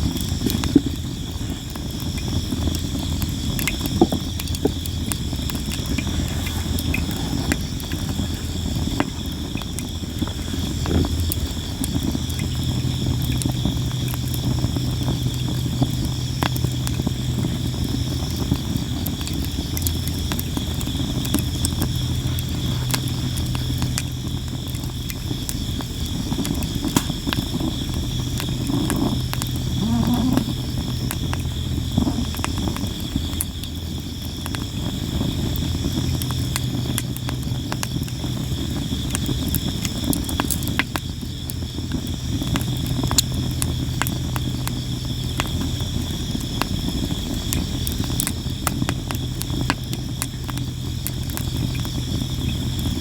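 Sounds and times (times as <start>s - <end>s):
crickets chirping: 0.0s - 53.0s
low steady hum: 0.0s - 53.0s
wood fire crackling and popping: 0.0s - 53.0s.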